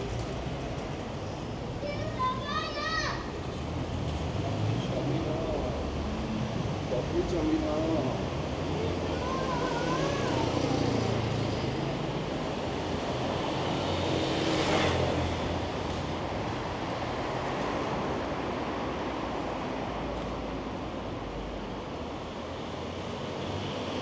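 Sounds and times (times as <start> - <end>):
steady rush of cars: 0.0 - 24.0.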